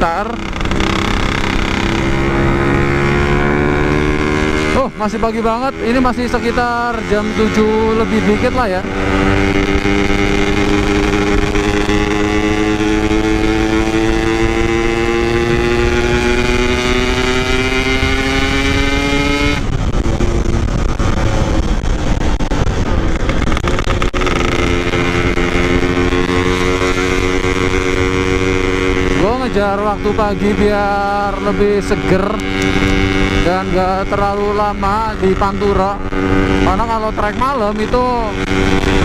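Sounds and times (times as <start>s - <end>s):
motorcycle engine: 0.0s - 39.0s
wind and road noise: 0.0s - 39.0s.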